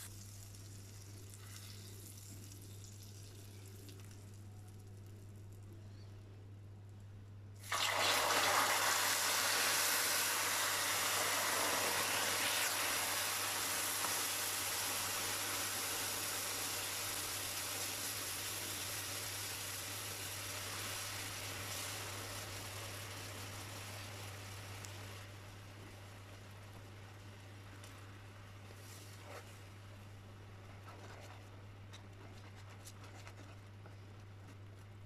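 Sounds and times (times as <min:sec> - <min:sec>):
hot caramel hissing and bubbling: 0:00.0 - 0:05.8, 0:07.6 - 0:31.2.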